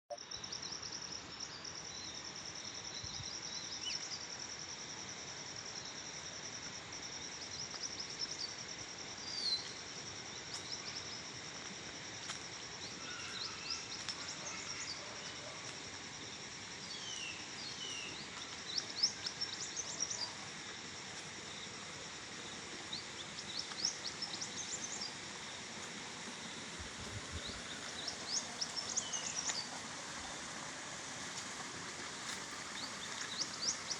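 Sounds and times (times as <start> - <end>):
steady hiss: 0.4 - 33.9.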